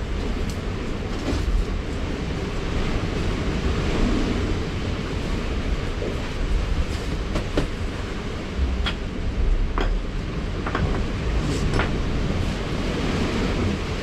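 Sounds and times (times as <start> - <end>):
sea surf: 0.0 - 14.0
wind rumbling on microphone: 0.0 - 14.0.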